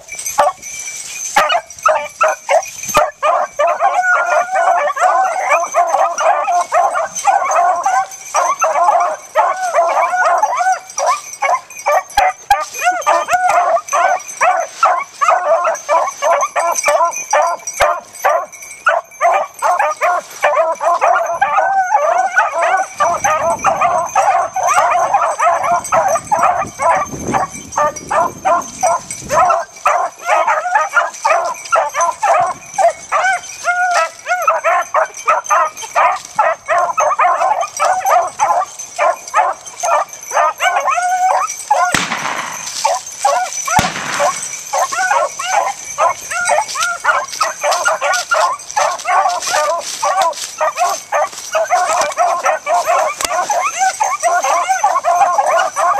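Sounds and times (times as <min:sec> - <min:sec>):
beagles baying and yelping: 0:00.0 - 0:55.9.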